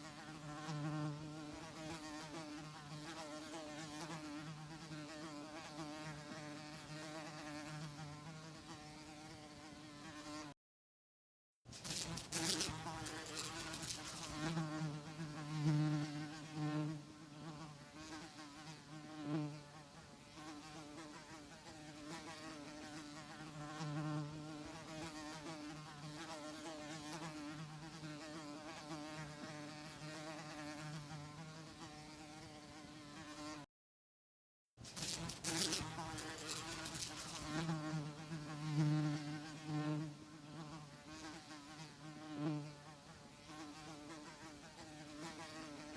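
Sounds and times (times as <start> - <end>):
housefly buzzing: 0.0 - 10.6, 11.7 - 33.7, 34.8 - 45.9.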